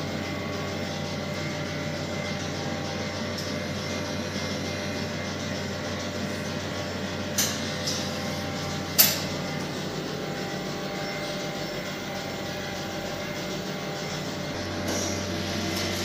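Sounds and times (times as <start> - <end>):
machinery hum and whir: 0.0 - 16.0.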